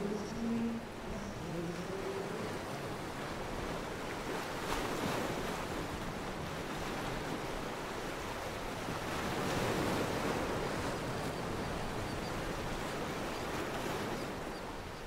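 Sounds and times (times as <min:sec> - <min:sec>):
wind and sea water rushing: 0:00.0 - 0:15.0.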